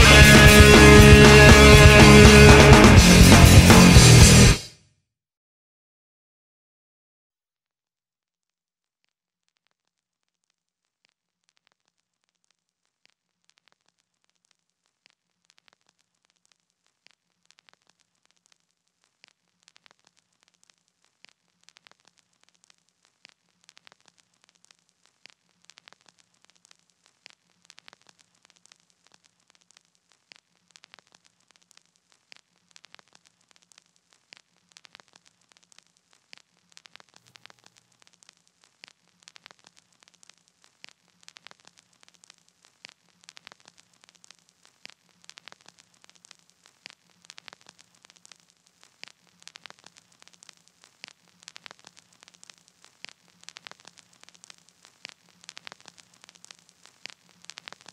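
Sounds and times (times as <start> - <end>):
faint crackling clicks: 9.4 - 57.9.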